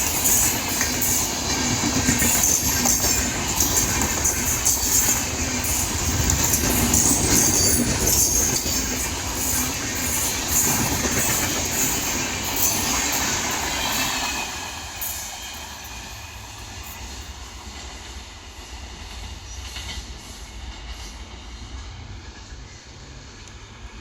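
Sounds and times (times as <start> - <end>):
train wheels clattering and rumbling: 0.0 - 24.0.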